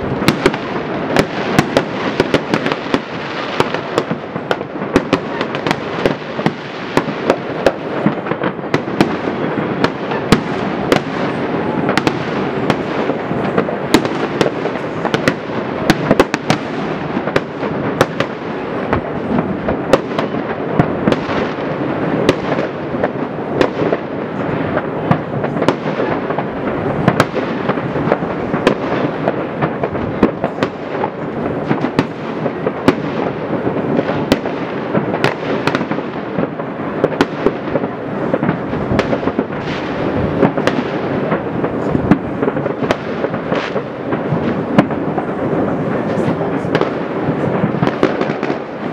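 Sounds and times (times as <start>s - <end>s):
fireworks bursting: 0.0s - 48.9s
sharp firework cracks and bangs: 0.0s - 48.9s.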